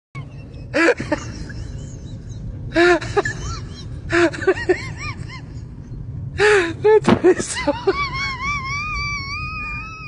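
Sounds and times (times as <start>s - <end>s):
steady low hum: 0.2s - 10.0s.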